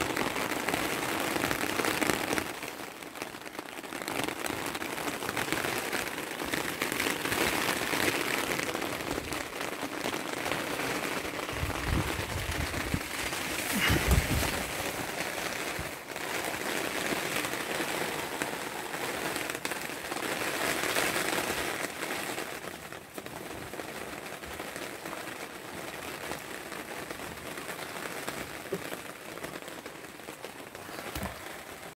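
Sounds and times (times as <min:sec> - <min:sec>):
rain on tent fabric: 0:00.0 - 0:32.0.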